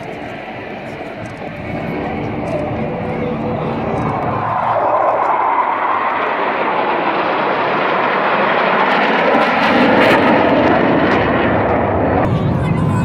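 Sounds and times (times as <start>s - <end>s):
jets flying overhead: 0.0s - 13.0s.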